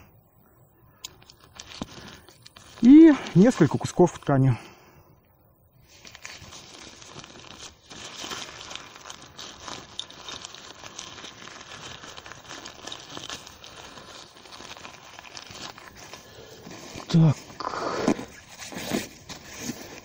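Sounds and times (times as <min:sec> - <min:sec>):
fabric pouch rustling and crinkling: 0:01.0 - 0:04.1, 0:05.8 - 0:20.0.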